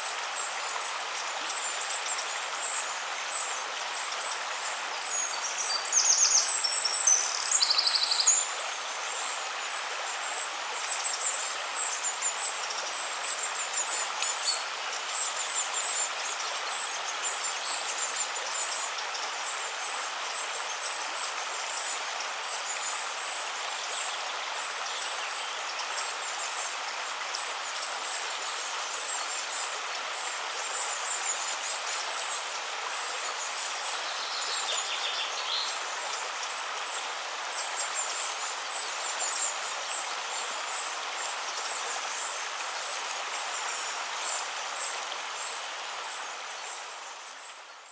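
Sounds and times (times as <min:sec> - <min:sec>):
river flowing: 0:00.0 - 0:47.9.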